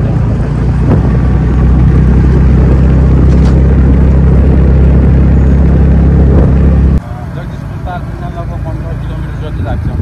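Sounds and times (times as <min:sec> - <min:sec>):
motorbike engine rumble: 0:00.0 - 0:10.0
road noise: 0:00.0 - 0:10.0.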